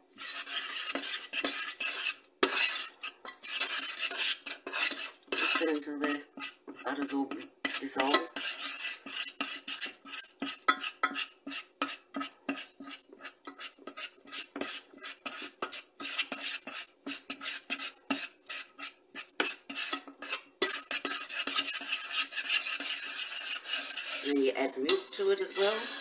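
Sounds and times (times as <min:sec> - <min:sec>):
metal spoon scraping a saucepan: 0:00.0 - 0:26.0.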